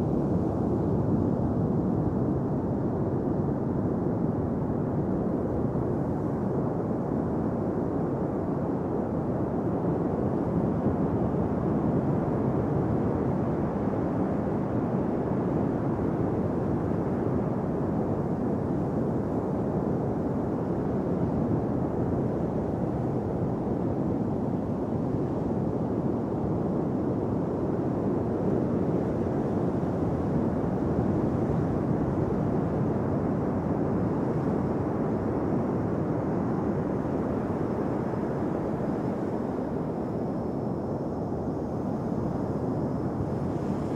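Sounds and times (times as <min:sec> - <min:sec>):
wind on microphone: 0:00.0 - 0:43.9.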